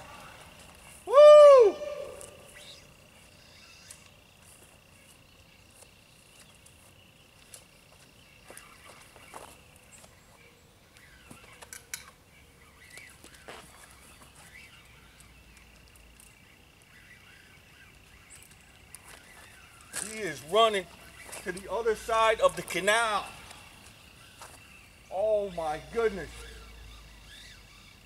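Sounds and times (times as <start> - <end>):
high insect drone: 0.0 - 28.0
bird chirps: 1.7 - 28.0.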